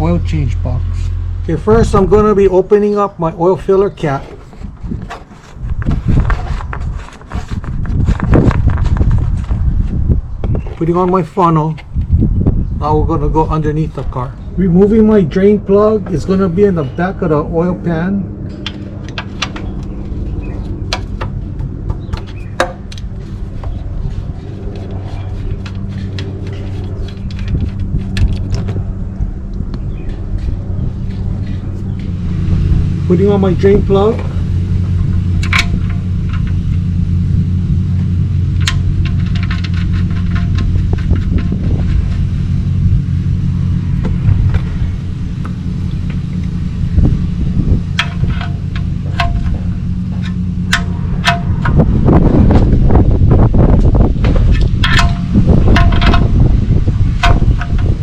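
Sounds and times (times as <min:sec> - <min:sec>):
low engine-like hum: 0:00.0 - 0:58.0.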